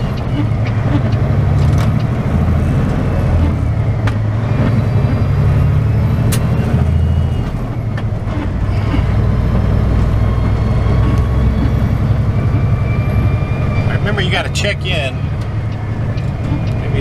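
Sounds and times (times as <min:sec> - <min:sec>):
truck diesel engine droning: 0:00.0 - 0:17.0.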